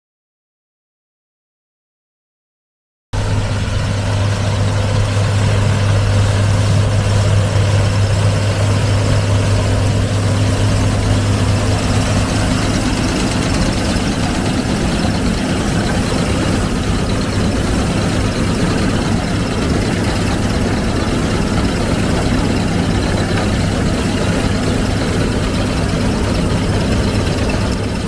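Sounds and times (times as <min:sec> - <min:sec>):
diesel engine running: 0:03.2 - 0:28.0.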